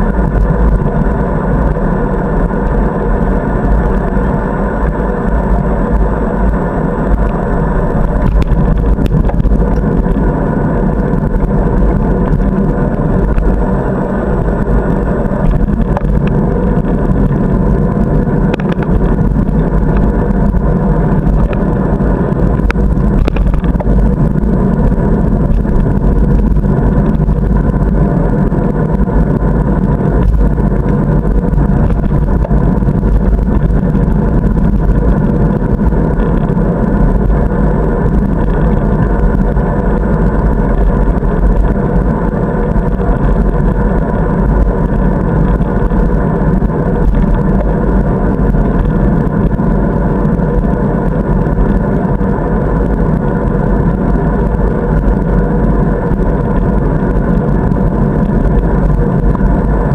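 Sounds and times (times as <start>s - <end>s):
bicycle rolling noise: 0.0s - 59.9s
wind rumble: 0.0s - 59.9s.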